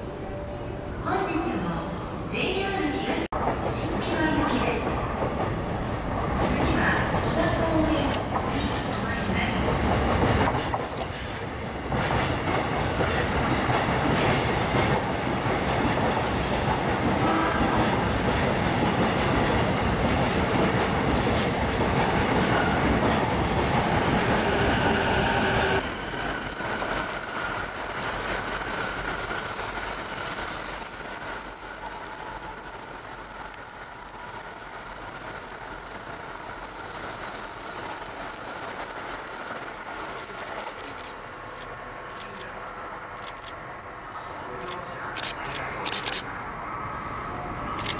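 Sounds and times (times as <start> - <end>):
electric train rumbling: 0.0 - 47.9.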